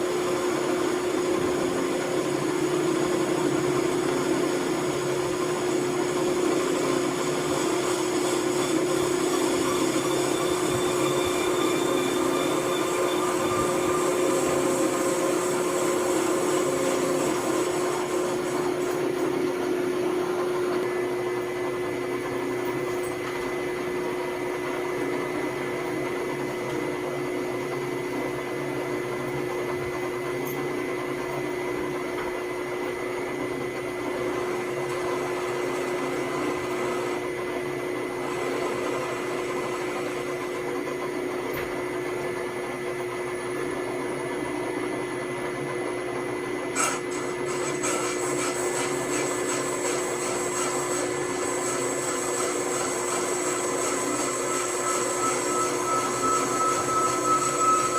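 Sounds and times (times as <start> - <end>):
motor-driven machine humming and whining: 0.0 - 57.9.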